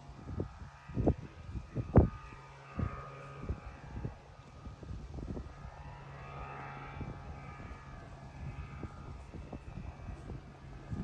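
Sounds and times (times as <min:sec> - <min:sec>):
microlight engine droning overhead: 0:00.0 - 0:11.0
wind buffeting microphone: 0:00.0 - 0:11.0.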